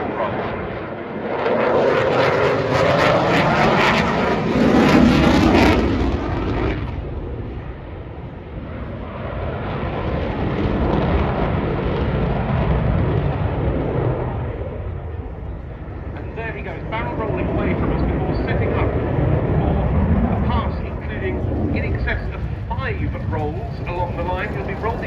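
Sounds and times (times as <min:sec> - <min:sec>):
jet engines roaring in low pass: 0:00.0 - 0:25.0.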